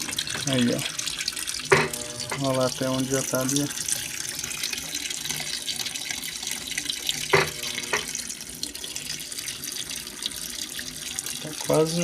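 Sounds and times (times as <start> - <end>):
water pouring into washing machine: 0.0 - 12.0.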